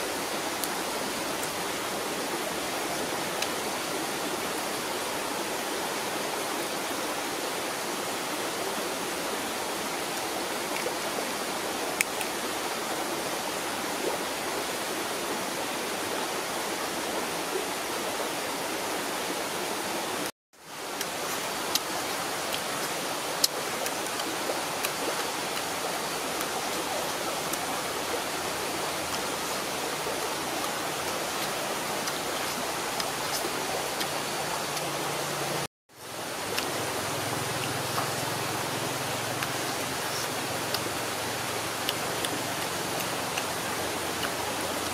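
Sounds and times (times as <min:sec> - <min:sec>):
steady outdoor hiss: 0:00.0 - 0:44.9.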